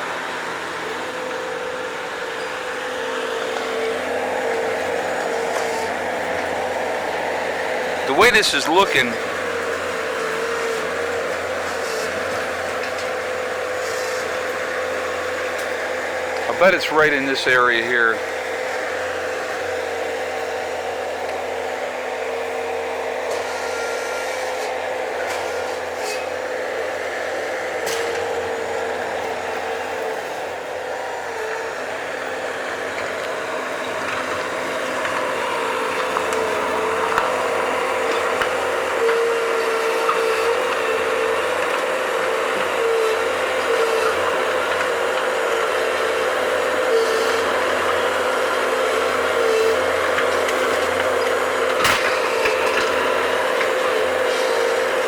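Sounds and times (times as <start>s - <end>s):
skid-steer loader engine running: 0.0s - 55.0s.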